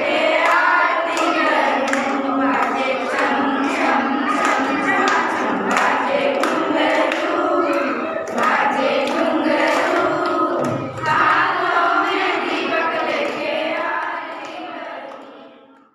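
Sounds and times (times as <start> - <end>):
women and girls singing in unison: 0.0 - 15.9
hand-clapping: 0.2 - 15.9.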